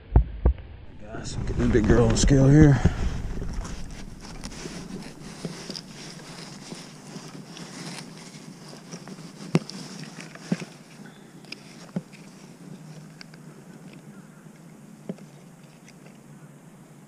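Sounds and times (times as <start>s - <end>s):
rustling: 1.0s - 16.5s.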